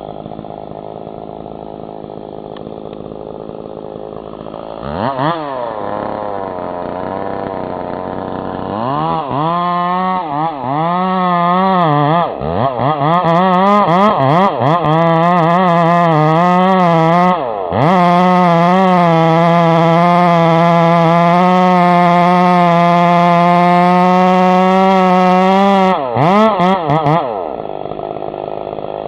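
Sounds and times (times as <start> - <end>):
chainsaw engine revving: 0.0 - 29.0.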